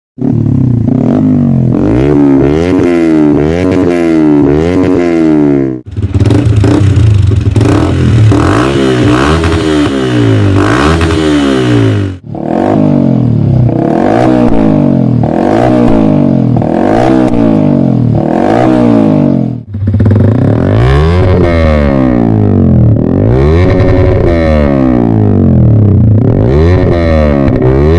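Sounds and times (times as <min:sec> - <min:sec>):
motorcycle engine revving: 0:00.2 - 0:27.9.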